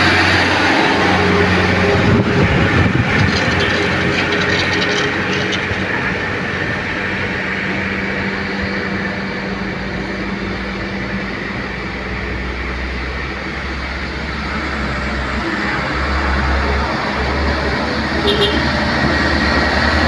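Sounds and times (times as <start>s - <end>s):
heavy truck engine droning: 0.0s - 20.0s.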